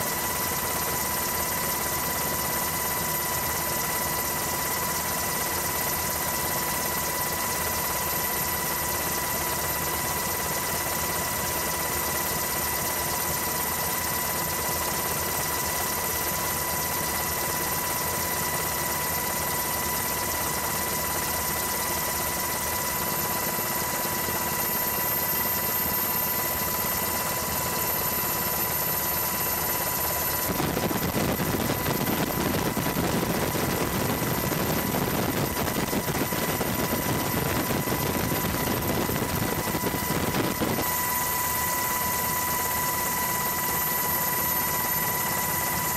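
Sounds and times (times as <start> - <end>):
helicopter engine and rotor: 0.0 - 45.9.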